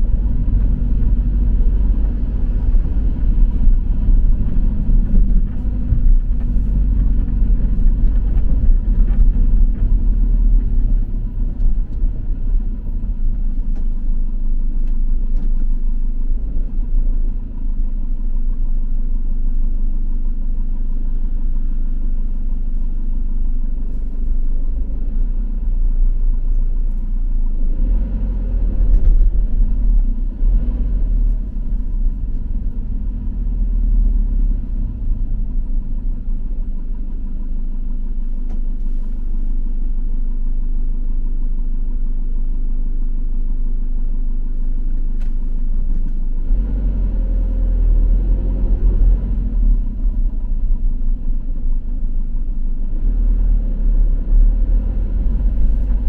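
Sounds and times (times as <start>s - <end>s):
vehicle engine and tyres rumbling: 0.0s - 56.0s.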